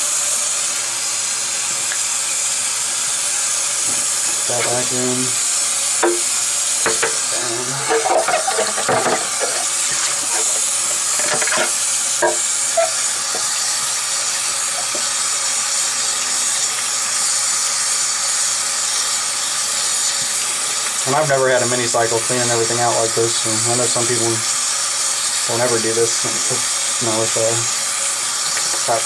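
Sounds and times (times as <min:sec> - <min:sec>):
faucet running into sink: 0:01.6 - 0:29.0.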